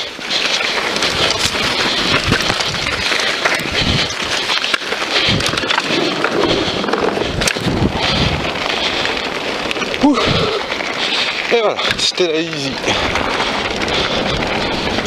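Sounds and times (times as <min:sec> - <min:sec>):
bike tyres crunching over dirt: 0:00.0 - 0:15.0.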